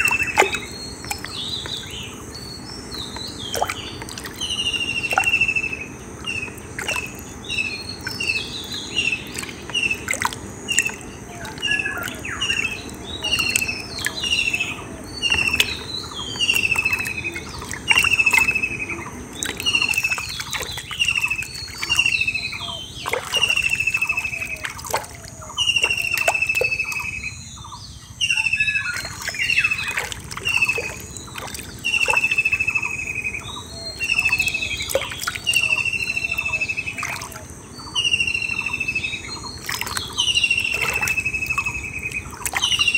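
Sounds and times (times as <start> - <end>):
high bird chirps: 0.0 - 42.9
hand squelching in muddy water: 3.0 - 5.7, 6.3 - 27.1, 28.8 - 33.0, 34.0 - 37.5, 39.4 - 42.9.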